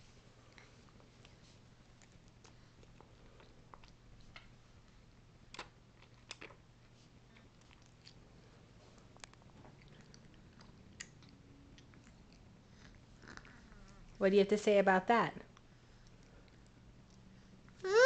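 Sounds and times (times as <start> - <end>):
toddler chewing fruit: 0.4 - 14.2, 15.5 - 18.0.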